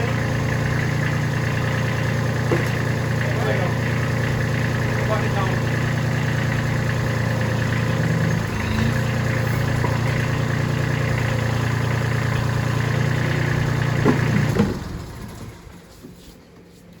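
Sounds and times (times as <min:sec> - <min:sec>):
engine knocks: 0:00.0 - 0:16.2
tractor engine idling: 0:00.0 - 0:16.2.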